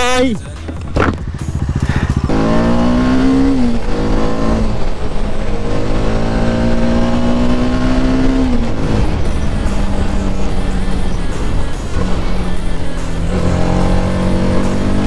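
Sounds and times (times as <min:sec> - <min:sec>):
motorcycle engine accelerating: 0:00.6 - 0:15.0.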